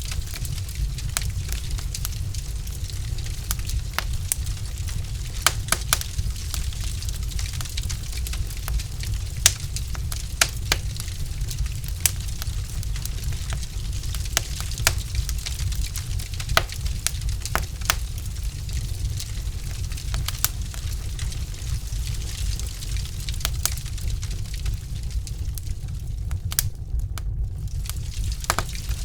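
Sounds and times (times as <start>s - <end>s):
logs crackling in fireplace: 0.0s - 29.0s.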